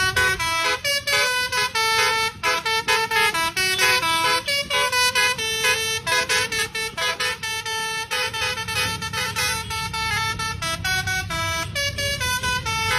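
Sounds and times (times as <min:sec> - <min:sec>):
bus engine rumbling: 0:00.0 - 0:12.9
multi-tone bus horn playing tune: 0:00.0 - 0:12.9.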